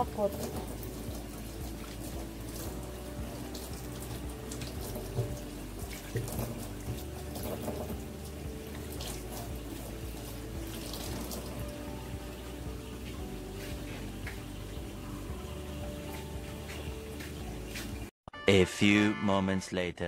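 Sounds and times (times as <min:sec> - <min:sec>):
tap water running into sink: 0:00.0 - 0:18.1
water splashing: 0:00.0 - 0:18.1.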